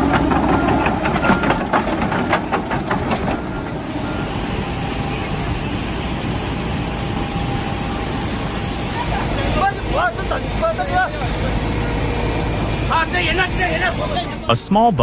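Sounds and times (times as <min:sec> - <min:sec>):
knocks and clanks: 0:00.0 - 0:14.4
heavy machine engine rumble: 0:00.0 - 0:15.0.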